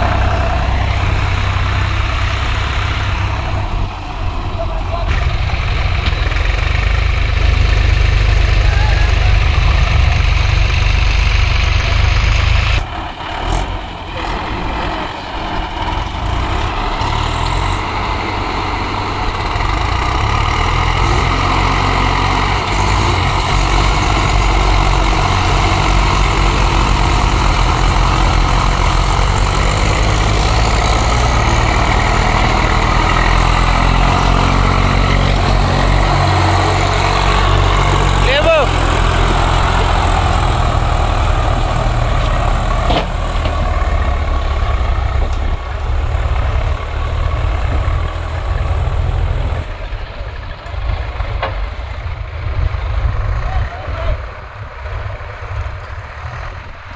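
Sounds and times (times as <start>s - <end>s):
tractor diesel engines running: 0.0s - 56.9s.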